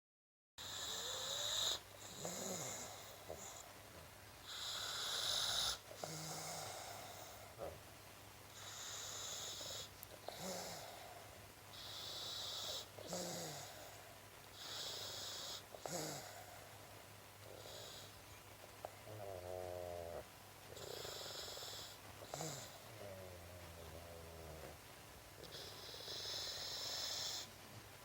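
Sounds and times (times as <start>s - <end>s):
puppy snoring: 0.6s - 7.8s, 8.5s - 16.8s, 17.4s - 18.2s, 18.8s - 27.6s.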